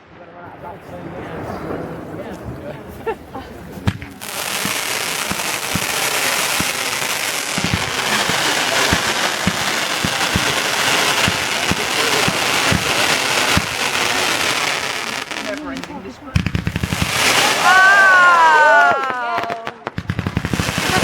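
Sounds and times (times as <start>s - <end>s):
fireworks bangs: 0.0s - 21.0s
fireworks crackling: 0.0s - 21.0s.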